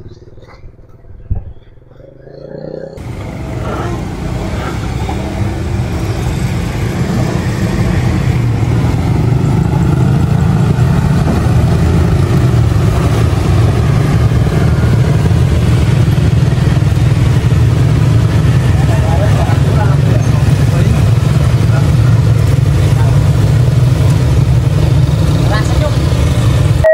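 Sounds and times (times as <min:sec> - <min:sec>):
engine rumbling: 0:00.0 - 0:26.9.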